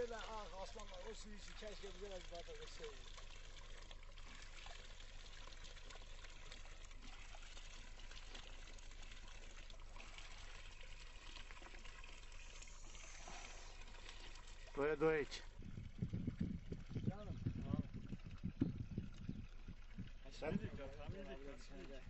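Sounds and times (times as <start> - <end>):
water pouring from fountain spout: 0.0 - 22.0.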